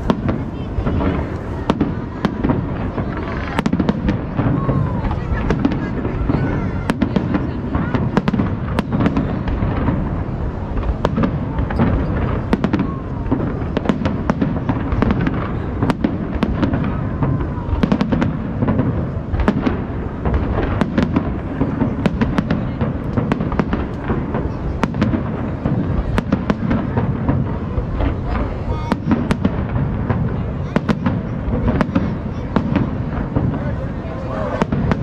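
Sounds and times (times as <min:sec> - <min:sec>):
fireworks booming: 0:00.0 - 0:35.0
fireworks crackling: 0:00.0 - 0:35.0.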